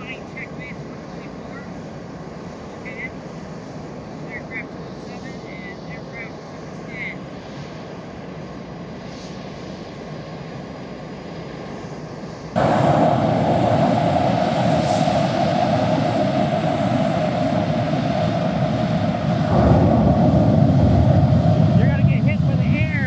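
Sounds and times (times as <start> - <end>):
jet engine idling: 0.0 - 23.0.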